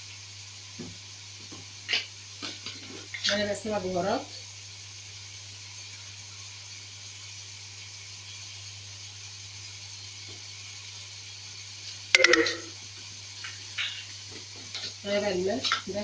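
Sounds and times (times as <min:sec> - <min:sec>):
ghee and spices sizzling in a pan: 0:00.0 - 0:16.0.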